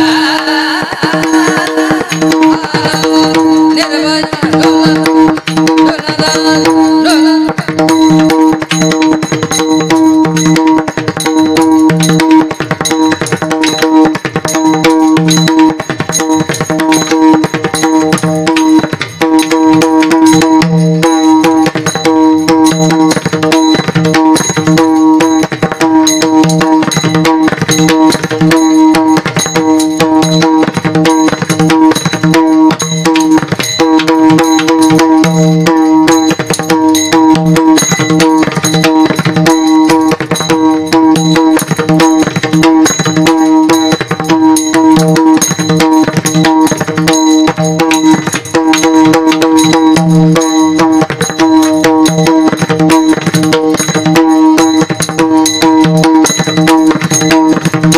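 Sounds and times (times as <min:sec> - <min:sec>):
fast hand drum strokes: 0:00.0 - 0:57.9
steady held tone: 0:00.0 - 0:57.9.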